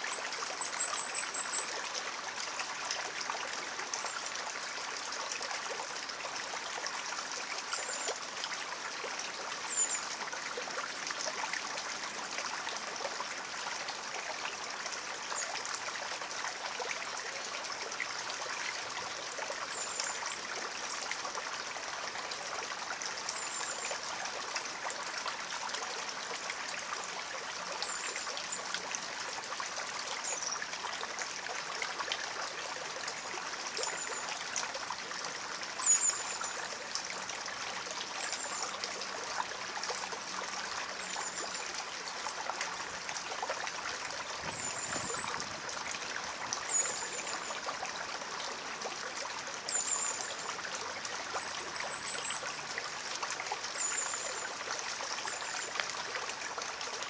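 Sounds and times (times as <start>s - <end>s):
stream trickling over stones: 0.0s - 57.0s.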